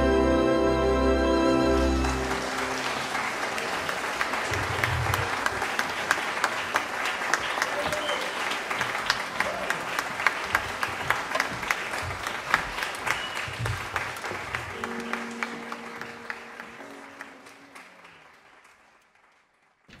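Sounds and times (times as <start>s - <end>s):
audience applauding: 1.5s - 20.0s.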